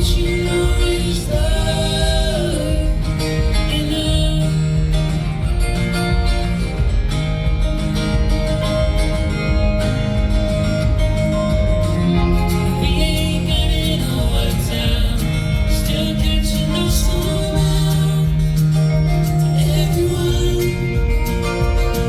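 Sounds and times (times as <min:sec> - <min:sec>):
acoustic guitar: 0:00.0 - 0:22.0
folk band playing: 0:00.0 - 0:22.0.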